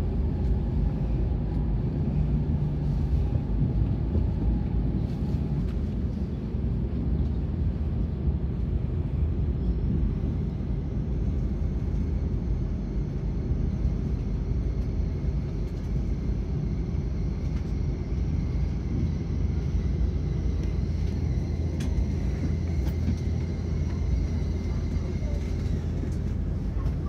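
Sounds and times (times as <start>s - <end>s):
train rumble inside cabin: 0.0s - 27.0s.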